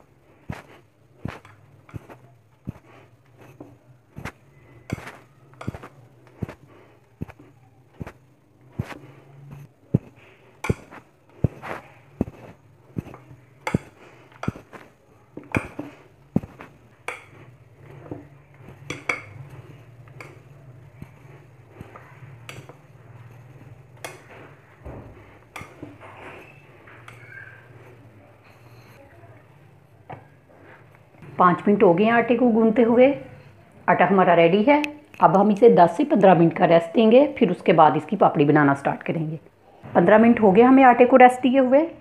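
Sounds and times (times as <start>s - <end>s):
dough kneaded in ceramic bowl: 0.0s - 39.2s.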